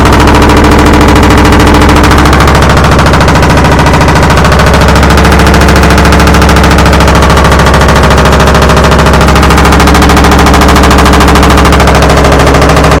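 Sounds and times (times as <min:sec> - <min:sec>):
washing machine banging and rattling: 0:00.0 - 0:13.0.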